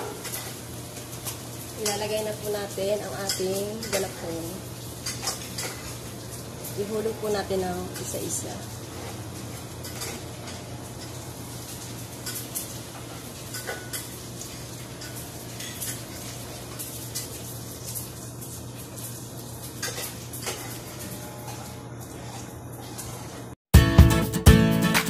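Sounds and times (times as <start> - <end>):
water boiling in a pot: 0.0 - 23.6.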